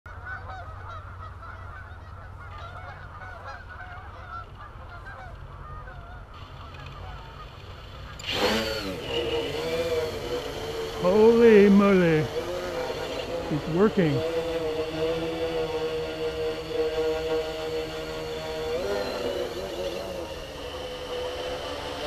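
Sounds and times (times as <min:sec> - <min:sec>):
geese honking: 0:00.1 - 0:08.2, 0:08.9 - 0:22.0
low steady rumble: 0:00.1 - 0:22.0.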